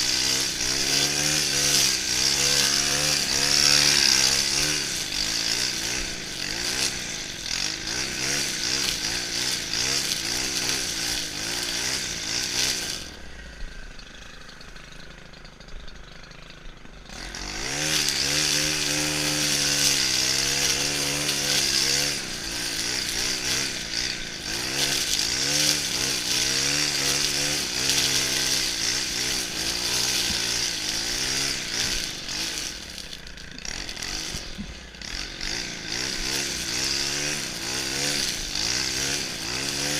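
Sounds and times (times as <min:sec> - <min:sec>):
brushcutter engine running: 0:00.0 - 0:39.9.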